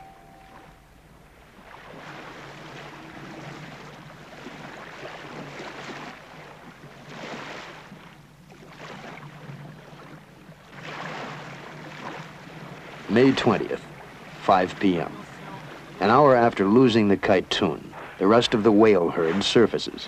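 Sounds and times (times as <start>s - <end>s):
steady low hum: 0.0s - 20.0s
wind and sea rushing: 0.0s - 20.0s.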